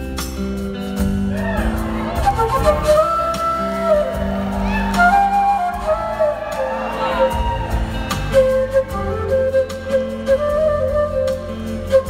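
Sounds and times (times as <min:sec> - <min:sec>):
live band playing slow number: 0:00.0 - 0:12.0
flute melody: 0:01.1 - 0:12.0.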